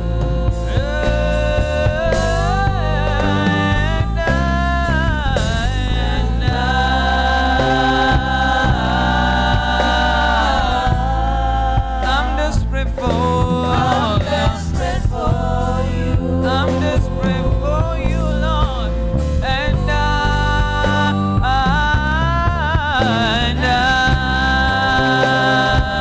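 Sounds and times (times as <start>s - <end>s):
sustained instrumental chords: 0.0s - 26.0s
voices singing gospel song: 0.0s - 26.0s.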